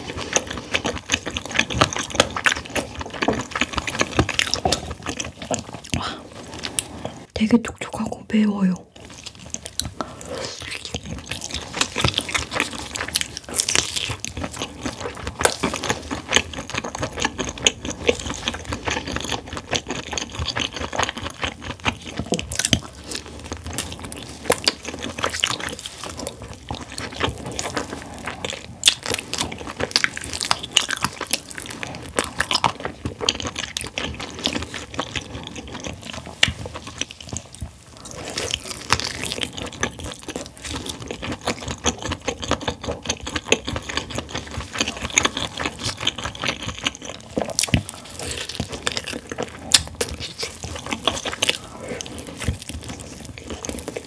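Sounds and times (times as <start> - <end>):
person chewing: 0.0 - 7.3, 8.9 - 54.0
wet mouth sounds: 9.0 - 54.0.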